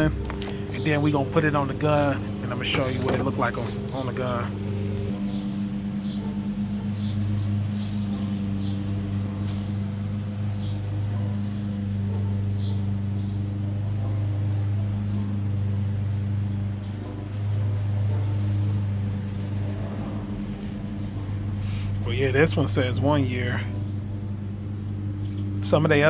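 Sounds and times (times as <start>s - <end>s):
mechanical hum with drone: 0.0s - 26.0s.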